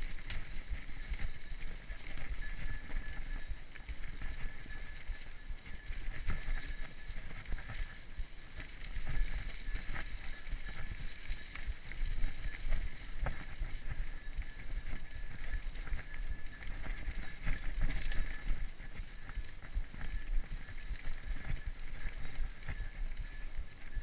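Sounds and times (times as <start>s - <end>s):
bike rattling over bumps: 0.0s - 24.0s
bike tyres rolling on dirt: 0.0s - 24.0s
wind buffeting microphone: 0.0s - 24.0s.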